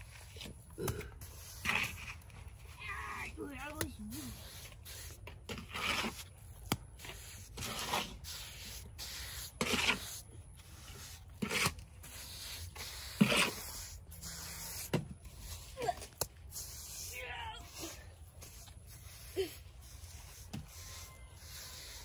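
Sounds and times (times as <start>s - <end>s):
hand rubbing damp earth: 0.0s - 22.0s.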